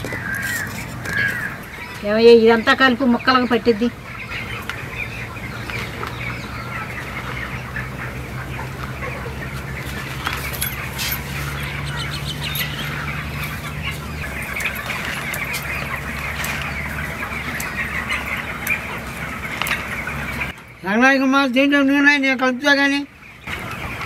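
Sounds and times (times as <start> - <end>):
birds chirping: 0.0 - 24.0
hens clucking: 0.0 - 24.0.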